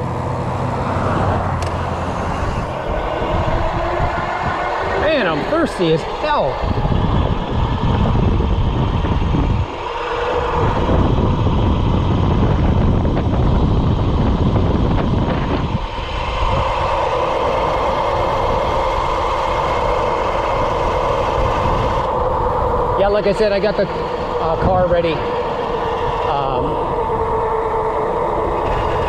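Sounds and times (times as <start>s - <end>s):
tyre and road noise: 0.0s - 29.0s
wind buffeting microphone: 0.0s - 29.0s.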